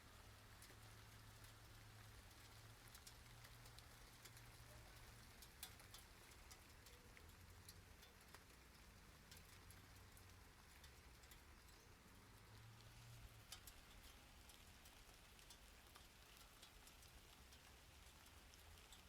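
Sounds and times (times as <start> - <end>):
small ticks: 0.2 - 19.0.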